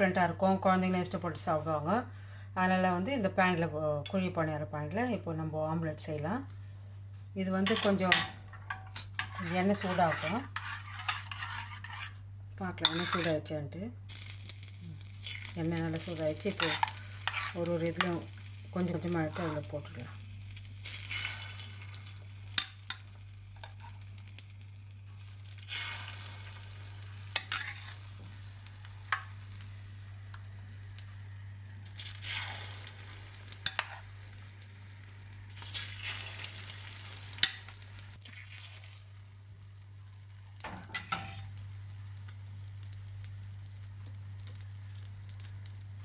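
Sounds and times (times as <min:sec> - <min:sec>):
steady low hum: 0:00.0 - 0:38.2
egg batter sizzling in hot oil: 0:06.2 - 0:46.0.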